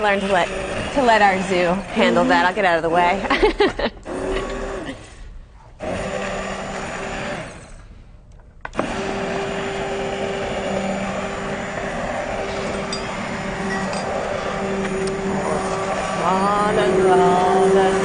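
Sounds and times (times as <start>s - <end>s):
electric blender running: 0.0s - 2.8s, 4.0s - 5.1s, 5.8s - 7.8s, 8.7s - 18.0s.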